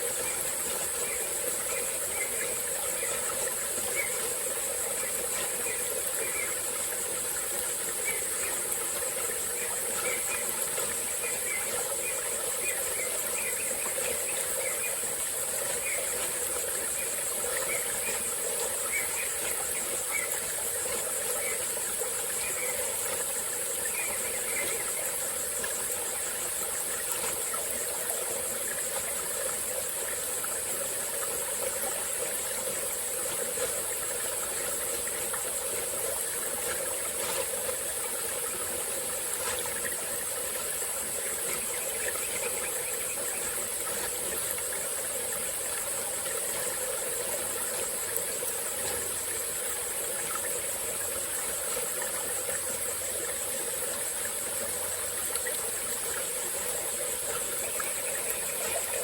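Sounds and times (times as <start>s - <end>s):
high-pitched insect chorus: 0.0s - 59.0s
stream flowing over rocks: 0.0s - 59.0s.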